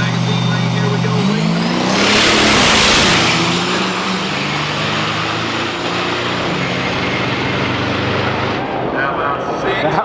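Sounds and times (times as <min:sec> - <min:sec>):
drag racer engines launching: 0:00.0 - 0:10.0.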